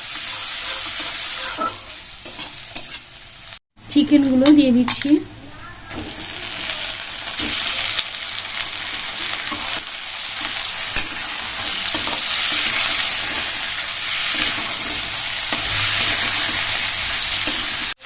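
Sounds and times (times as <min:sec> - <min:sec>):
chicken sizzling in hot oil: 0:00.0 - 0:03.6, 0:05.8 - 0:18.0.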